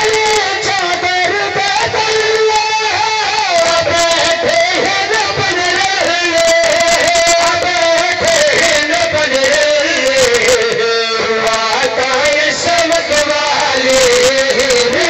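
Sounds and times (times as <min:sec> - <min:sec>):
men singing devotional song: 0:00.0 - 0:15.0
men's voices chanting along: 0:00.2 - 0:15.0.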